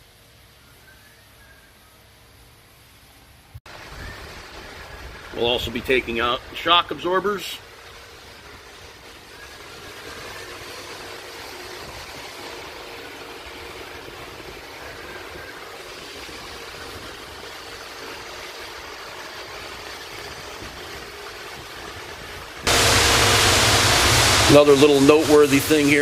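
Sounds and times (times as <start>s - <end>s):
background hum and hiss: 0.0s - 26.0s
loud rushing hiss: 1.8s - 26.0s.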